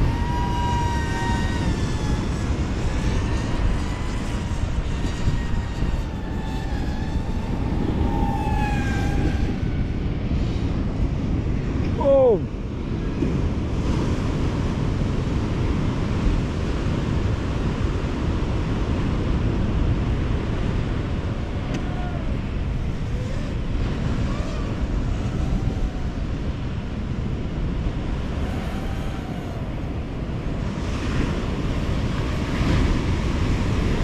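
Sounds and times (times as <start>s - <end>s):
drone motors buzzing whine: 0.0s - 34.0s
wind buffeting microphone: 0.0s - 34.0s.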